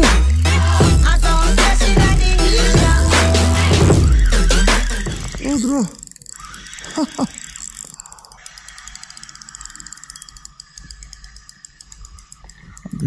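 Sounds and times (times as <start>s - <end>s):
fishing reel clicking: 0.7s - 13.0s.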